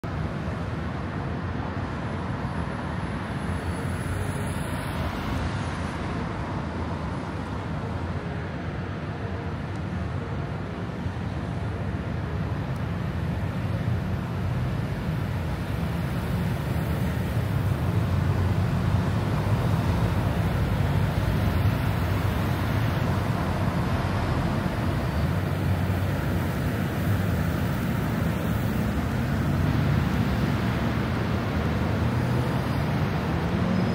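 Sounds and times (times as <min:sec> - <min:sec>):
traffic rumble: 0:00.0 - 0:33.9.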